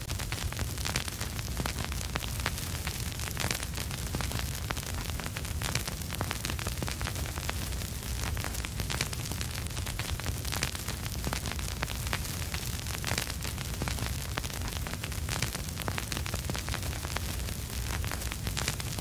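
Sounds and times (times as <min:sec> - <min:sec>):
steady hiss: 0:00.0 - 0:19.0
vinyl crackles and pops: 0:00.0 - 0:19.0.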